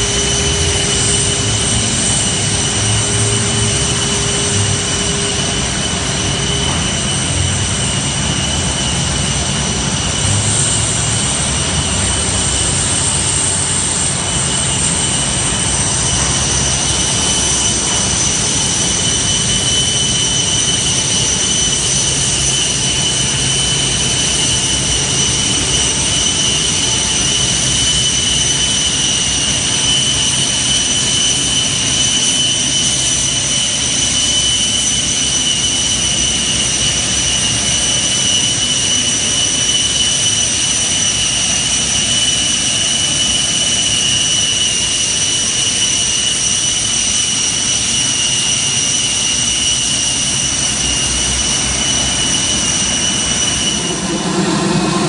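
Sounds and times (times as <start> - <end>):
jet turbines whining: 0.0 - 55.0.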